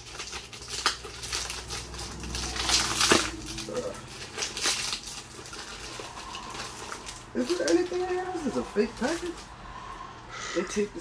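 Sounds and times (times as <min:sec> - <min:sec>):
package wrapping crinkling: 0:00.0 - 0:09.6.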